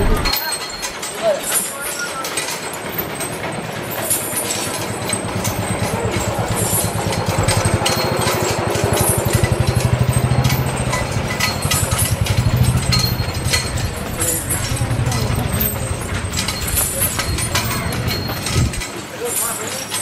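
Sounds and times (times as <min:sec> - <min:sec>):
small engine puttering: 0:00.0 - 0:20.0.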